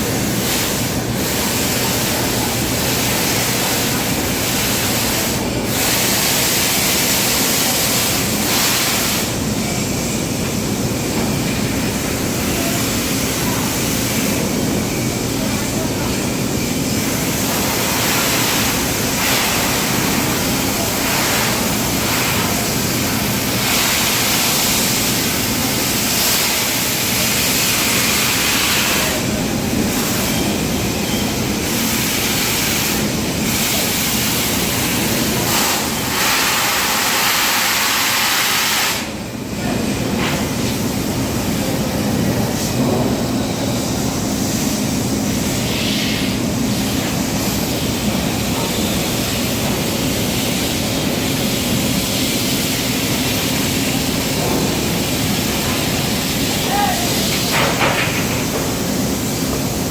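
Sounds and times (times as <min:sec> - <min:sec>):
welding torch hiss with hum: 0:00.0 - 0:59.9.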